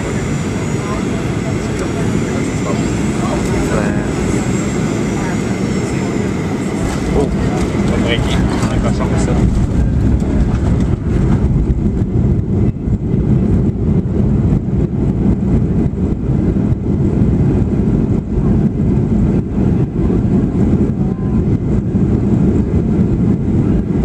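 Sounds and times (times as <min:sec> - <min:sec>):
airliner engine and wheel rumble: 0:00.0 - 0:24.0.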